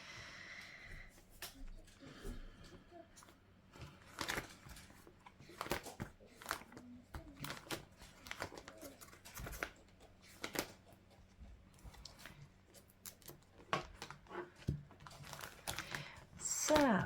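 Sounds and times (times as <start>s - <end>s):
paper crinkling and rustling: 1.2s - 17.0s.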